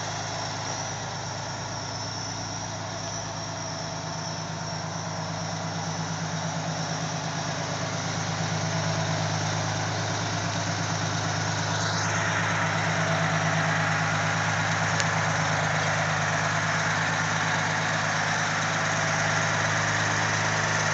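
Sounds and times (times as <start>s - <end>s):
fire engine motor idling: 0.0s - 20.9s.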